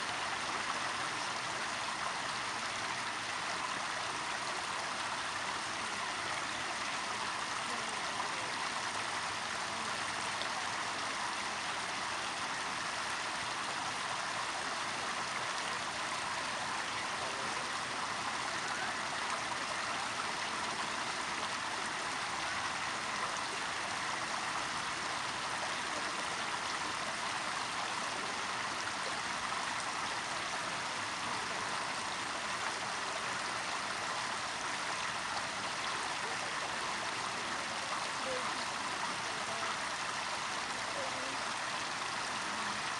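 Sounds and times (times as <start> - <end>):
stream water running: 0.0 - 42.9.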